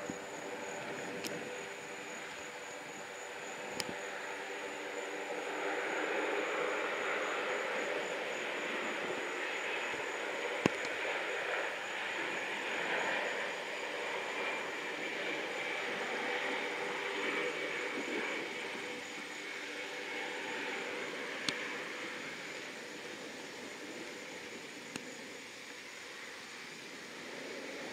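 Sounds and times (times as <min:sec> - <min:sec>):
jet engines whining: 0:00.0 - 0:27.9.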